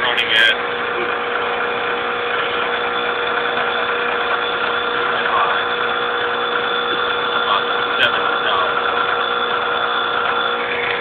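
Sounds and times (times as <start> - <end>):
vibratory feeder buzzing hum: 0.0 - 11.0.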